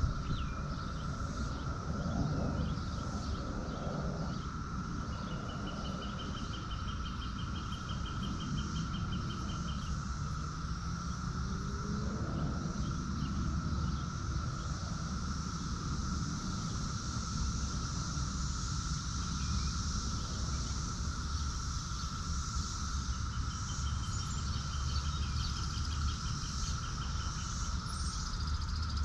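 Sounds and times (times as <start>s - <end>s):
insect drone: 0.0s - 29.0s.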